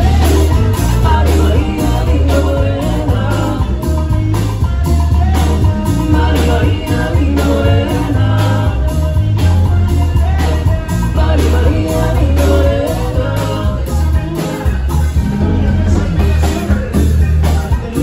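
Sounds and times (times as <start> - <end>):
heavy bass line: 0.0 - 18.0
latin dance band playing: 0.0 - 18.0
men singing: 0.0 - 18.0
timbales and congas beat: 0.0 - 18.0.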